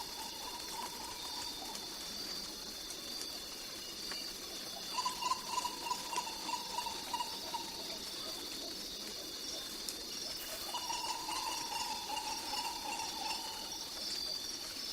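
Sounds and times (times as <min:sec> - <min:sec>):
insect chorus: 0:00.0 - 0:14.9.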